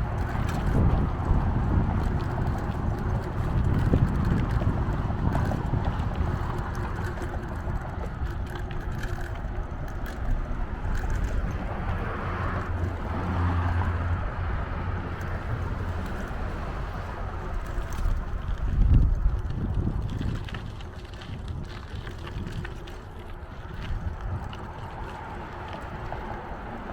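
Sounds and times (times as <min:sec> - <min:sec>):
tyres rumbling on pavement: 0:00.0 - 0:26.9
wind buffeting microphone: 0:00.0 - 0:26.9.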